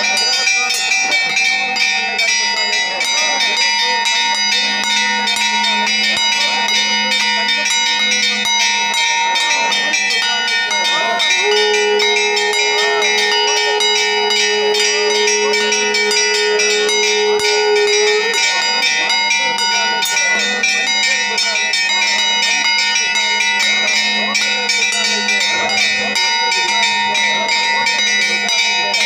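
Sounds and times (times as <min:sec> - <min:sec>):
bells ringing: 0:00.0 - 0:29.0
long steady tone: 0:00.0 - 0:29.0.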